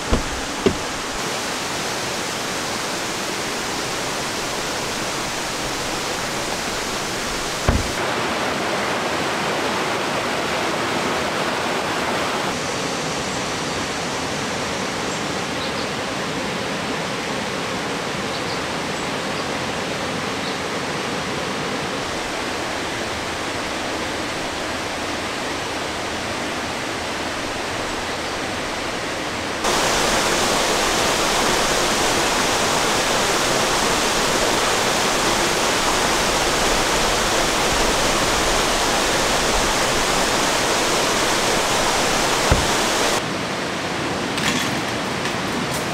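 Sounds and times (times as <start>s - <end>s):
stream water rushing over rocks: 0.0s - 18.9s, 19.6s - 44.3s.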